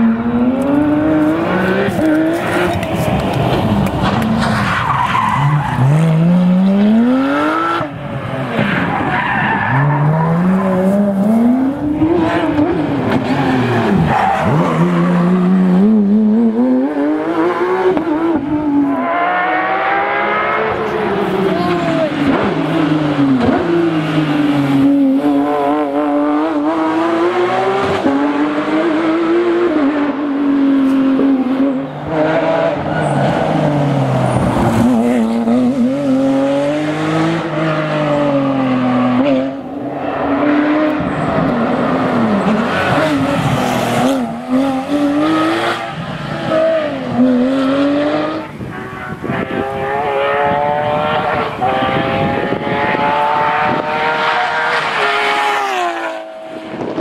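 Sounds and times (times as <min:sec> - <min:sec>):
rally car engines at high revs: 0:00.0 - 0:57.0.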